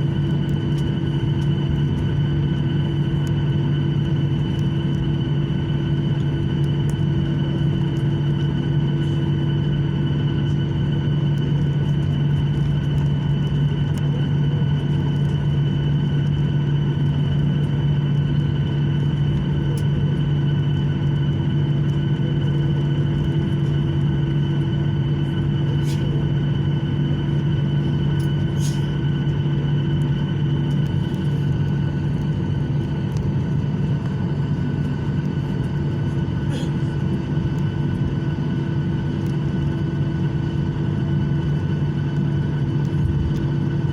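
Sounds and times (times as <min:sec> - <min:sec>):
constant rumble: 0:00.0 - 0:43.9
jet engines droning: 0:00.0 - 0:43.9.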